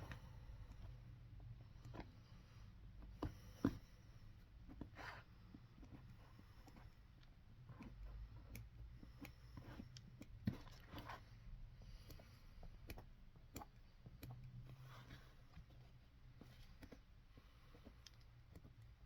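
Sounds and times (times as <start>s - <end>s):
faint clicks and taps: 0.0s - 19.0s.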